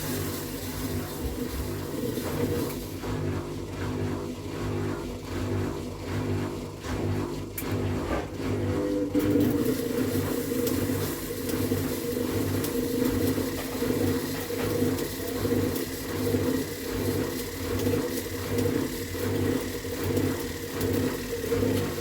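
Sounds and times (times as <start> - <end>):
washing machine pulsing hum: 0.0 - 22.0.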